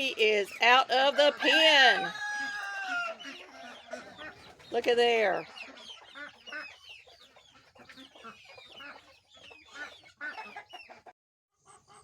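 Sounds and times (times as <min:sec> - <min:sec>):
chickens clucking: 0:00.0 - 0:12.0
chicks peeping: 0:00.2 - 0:12.0.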